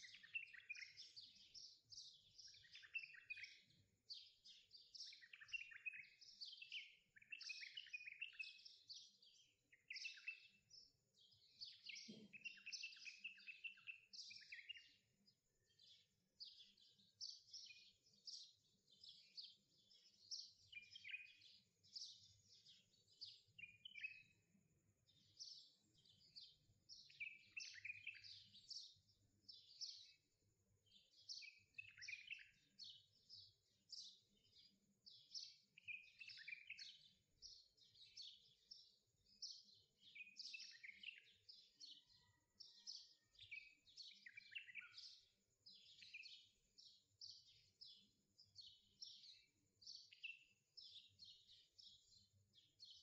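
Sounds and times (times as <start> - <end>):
faint birdsong chirps and whistles: 0.0 - 53.0.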